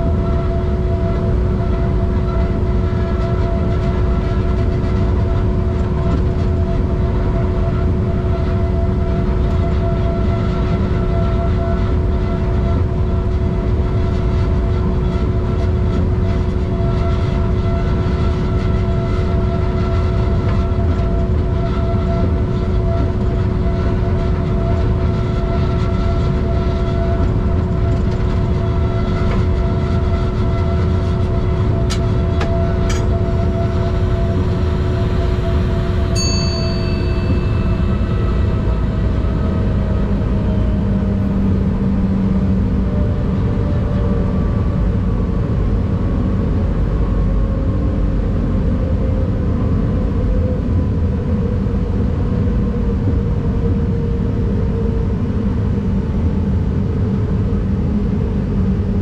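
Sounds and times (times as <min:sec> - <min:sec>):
car road and wind rumble: 0:00.0 - 0:59.0
steady drone: 0:00.0 - 0:59.0.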